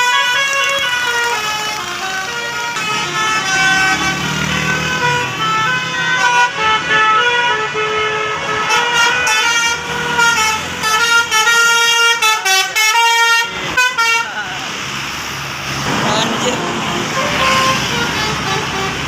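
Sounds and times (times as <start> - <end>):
musical bus horn melody: 0.0 - 14.4, 15.9 - 19.0.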